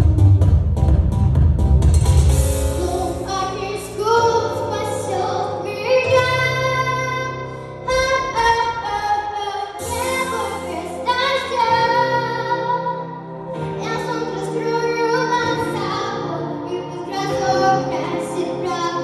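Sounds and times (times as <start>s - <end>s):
instrumental accompaniment: 0.0s - 9.2s, 9.8s - 19.0s
girl singing a pop song: 2.6s - 19.0s.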